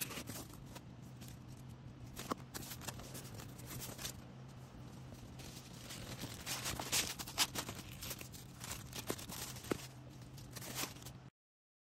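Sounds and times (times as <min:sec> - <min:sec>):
plastic packaging crinkling: 0:00.0 - 0:04.2, 0:05.1 - 0:11.2
faint steady hum: 0:00.0 - 0:11.3.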